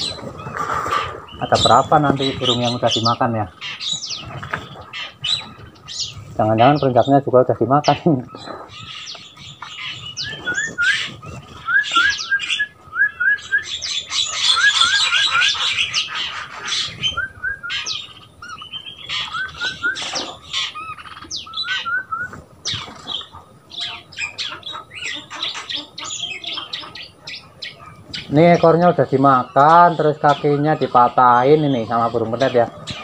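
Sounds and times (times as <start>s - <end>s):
birds rising chirps: 0.0s - 33.0s
shrill bird chattering: 0.9s - 33.0s.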